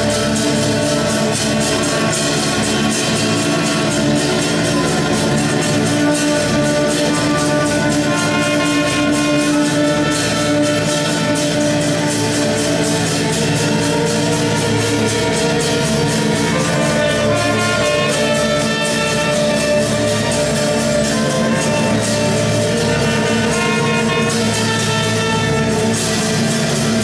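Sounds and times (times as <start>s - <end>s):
drum kit fast beat: 0.0s - 27.0s
trumpet: 0.0s - 27.0s
violins: 0.0s - 27.0s.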